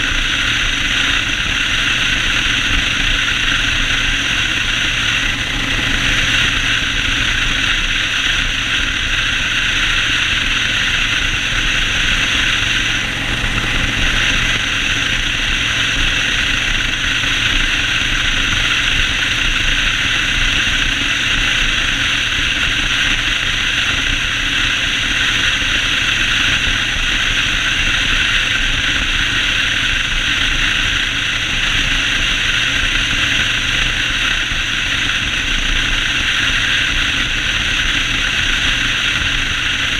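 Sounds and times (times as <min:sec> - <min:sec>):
motorcycle engine running: 0:00.0 - 0:39.9
steady rushing hiss: 0:00.0 - 0:39.9.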